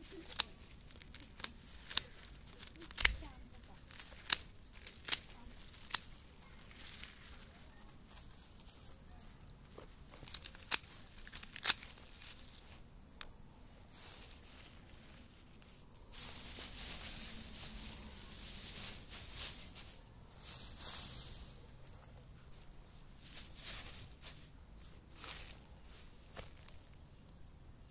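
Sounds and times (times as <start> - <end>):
straw and twigs clicking: 0.0 - 7.8, 8.6 - 27.4
dry straw rustling: 0.0 - 27.1.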